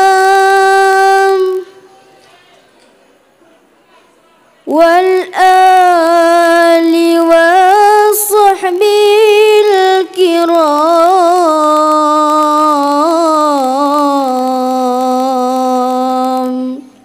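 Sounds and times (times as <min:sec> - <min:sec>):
person singing unaccompanied: 0:00.0 - 0:02.0, 0:04.7 - 0:17.0.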